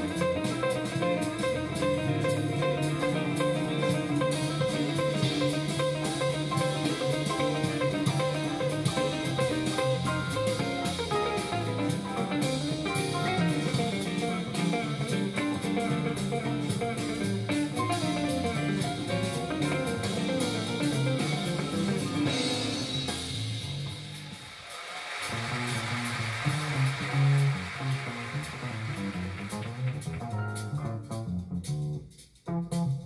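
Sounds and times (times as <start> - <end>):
upright bass: 0.0 - 24.3, 25.3 - 33.0
piano: 0.0 - 32.0
drums: 0.0 - 33.0.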